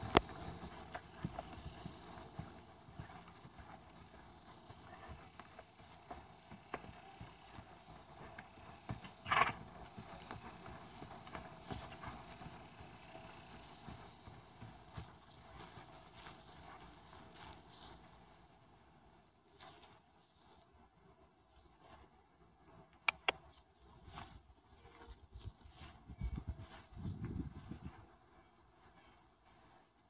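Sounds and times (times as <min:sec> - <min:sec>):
horse hoofbeats on grass: 0:00.0 - 0:20.7, 0:23.8 - 0:29.8.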